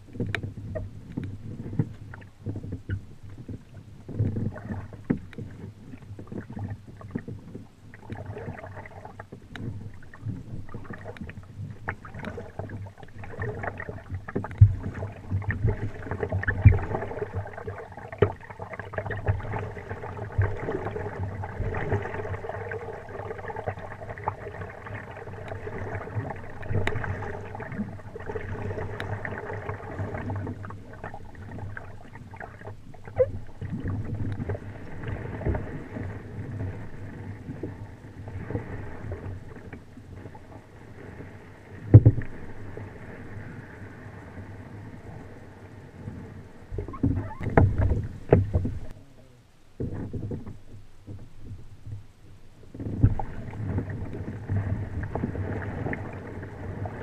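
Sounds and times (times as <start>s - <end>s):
paddle splashing in water: 0.0s - 49.0s, 49.8s - 57.0s.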